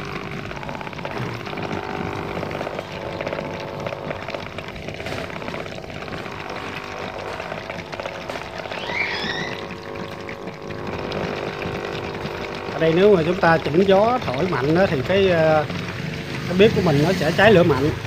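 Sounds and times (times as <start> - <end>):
electric air pump humming: 0.0 - 18.0.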